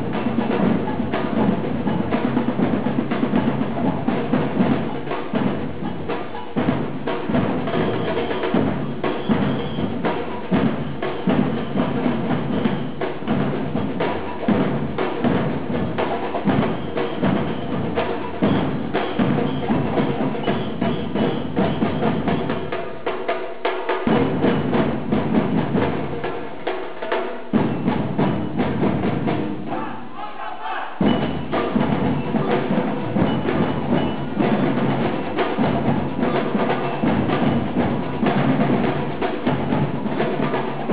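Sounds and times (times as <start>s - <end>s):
drums playing dense rhythm: 0.0s - 30.2s, 30.9s - 40.9s.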